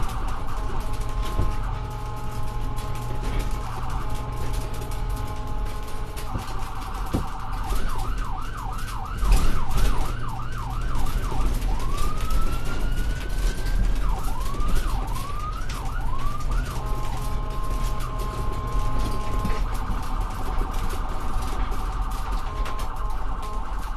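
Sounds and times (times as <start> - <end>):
electronic siren: 0.0 - 23.9.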